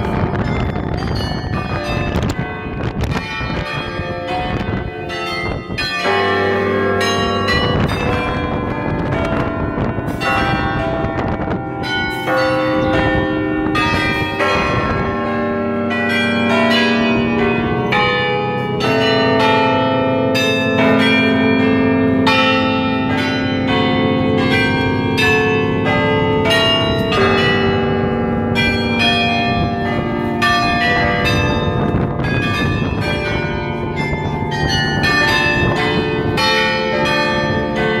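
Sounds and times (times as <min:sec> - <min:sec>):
tower bells playing a melody: 0:00.0 - 0:38.0.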